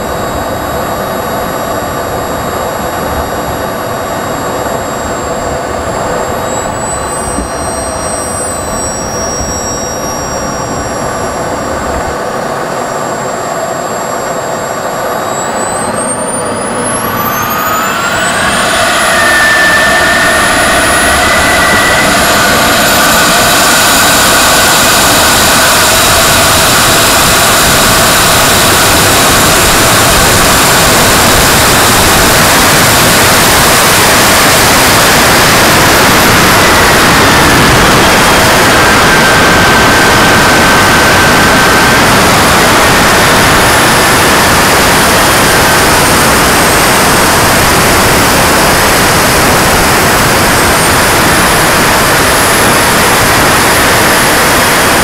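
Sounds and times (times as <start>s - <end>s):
turbine engine whine: 0.0s - 55.0s.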